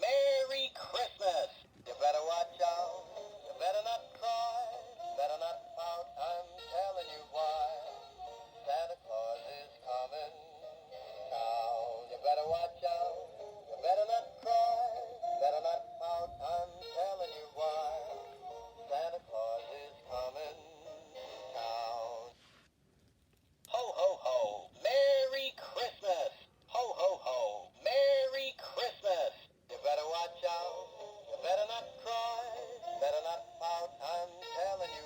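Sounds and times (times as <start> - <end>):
toy singing through small speaker: 0.0 - 22.4, 23.7 - 35.0.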